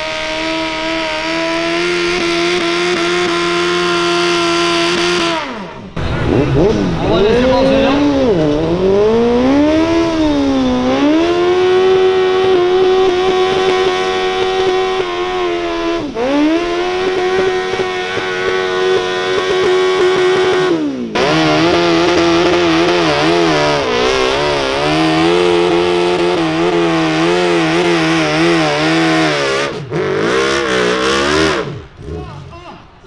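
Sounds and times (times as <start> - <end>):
deep tractor engine labouring: 0.0 - 33.0
high-revving tractor engine: 0.0 - 33.0.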